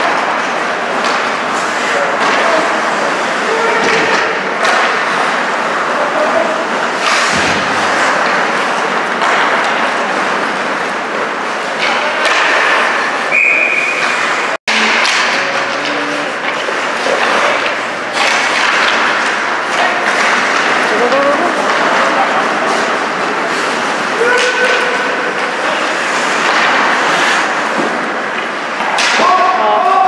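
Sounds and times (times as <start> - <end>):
hockey sticks and puck knocking: 0.0 - 3.2, 3.8 - 5.9, 6.9 - 30.0
skates scraping ice: 0.0 - 30.0.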